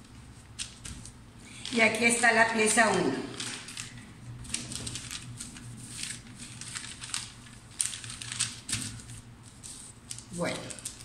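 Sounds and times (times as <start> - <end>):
paper and fabric rustling: 0.0 - 11.0.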